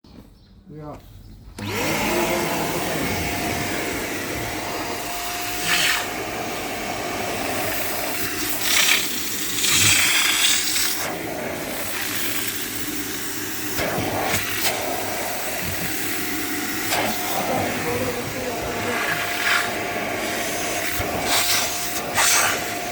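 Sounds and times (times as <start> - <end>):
suction motor whining: 1.5 - 22.9.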